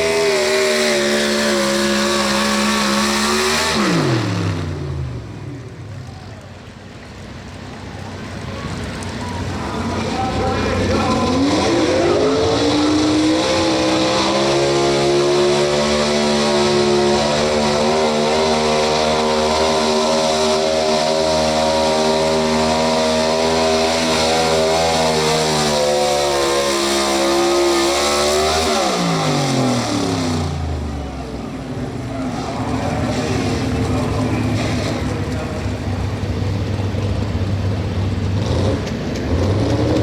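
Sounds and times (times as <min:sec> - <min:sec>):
truck engine revving hard: 0:00.0 - 0:05.6, 0:08.4 - 0:40.0.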